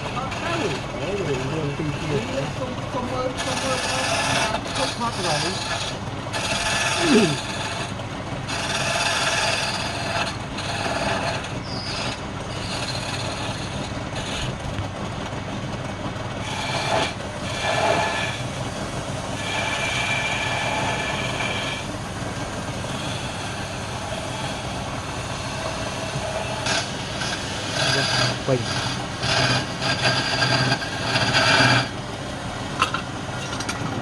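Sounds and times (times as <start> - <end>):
wood lathe with tool rubbing wood: 0.0 - 34.0.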